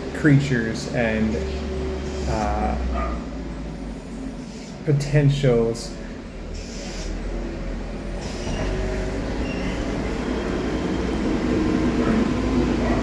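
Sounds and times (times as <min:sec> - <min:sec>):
truck driving by: 0:00.0 - 0:05.0, 0:05.9 - 0:13.0.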